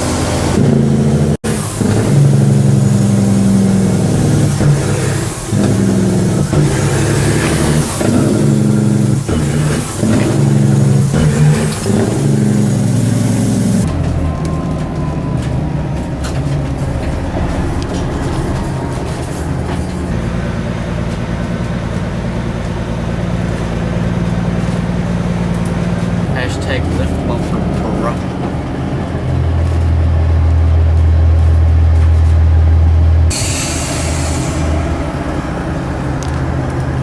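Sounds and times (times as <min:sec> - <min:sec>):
diesel truck engines revving: 0:00.0 - 0:37.0.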